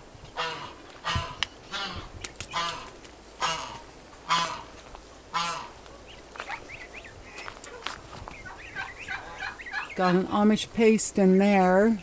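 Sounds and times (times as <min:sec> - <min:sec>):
geese honking: 0:00.4 - 0:10.7.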